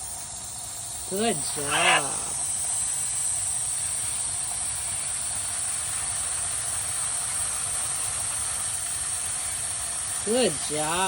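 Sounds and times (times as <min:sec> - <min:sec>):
shower water spraying: 0:00.0 - 0:11.0.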